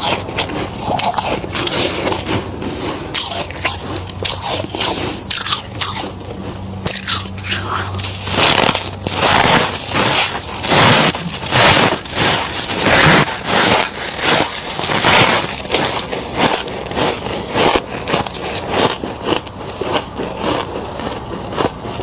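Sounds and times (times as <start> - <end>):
crunching of chewed frost: 0.0 - 22.0.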